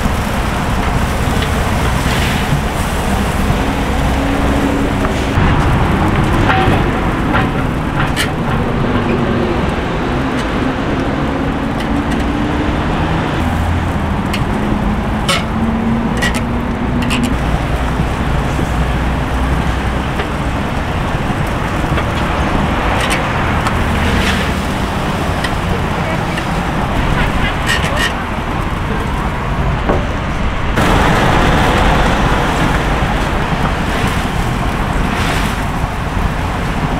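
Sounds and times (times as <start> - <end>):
rushing noise with low hum: 0.0 - 36.9.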